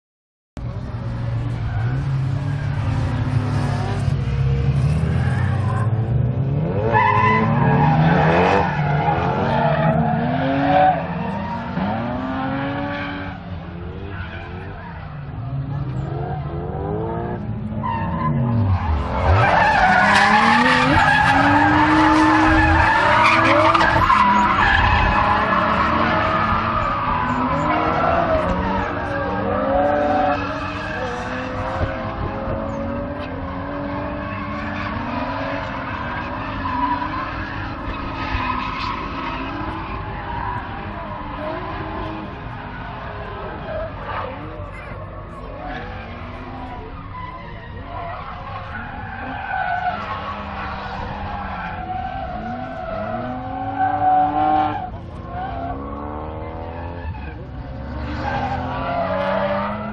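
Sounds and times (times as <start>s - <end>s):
race car engines revving: 0.6s - 59.9s
tyres skidding and squealing: 0.6s - 59.9s.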